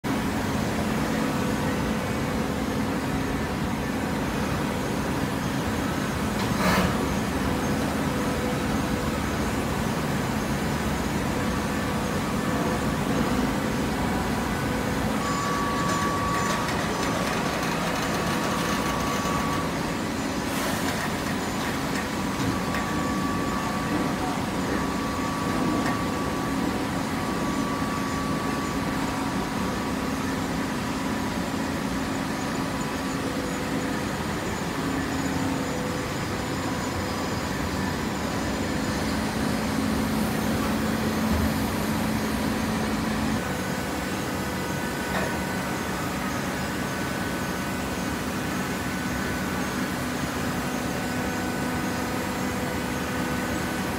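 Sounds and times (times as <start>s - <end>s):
baler machine hum: 0.1s - 53.9s.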